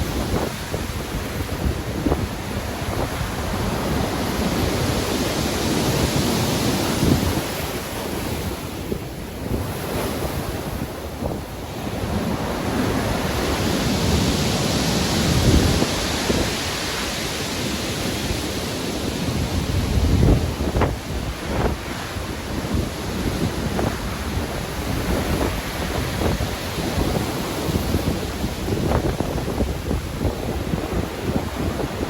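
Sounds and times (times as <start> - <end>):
ocean waves breaking: 0.0 - 32.0
wind buffeting microphone: 0.0 - 32.0.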